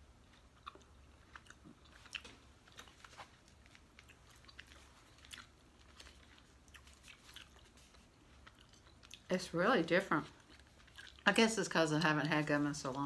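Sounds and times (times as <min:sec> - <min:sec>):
person chewing gum: 0:00.0 - 0:09.4, 0:10.2 - 0:11.4.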